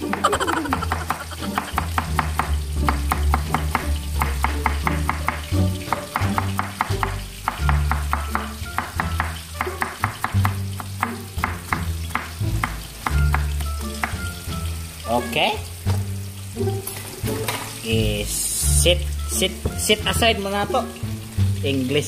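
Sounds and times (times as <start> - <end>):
background music with bass: 0.0 - 22.0.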